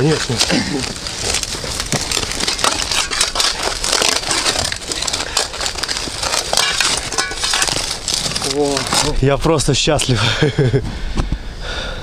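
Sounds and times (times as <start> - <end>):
debris crunching underfoot: 0.0 - 10.1.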